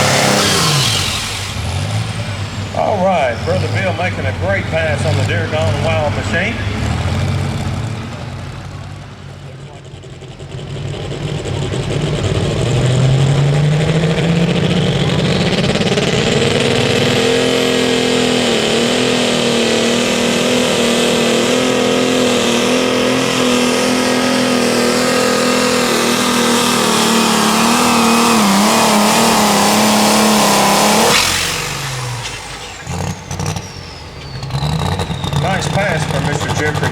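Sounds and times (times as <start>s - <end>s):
tractor engine at full throttle: 0.0s - 36.9s.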